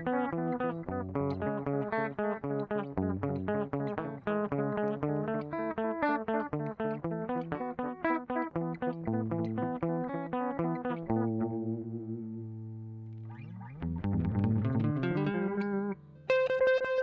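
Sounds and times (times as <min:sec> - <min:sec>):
guitar with delay effect: 0:00.0 - 0:17.0.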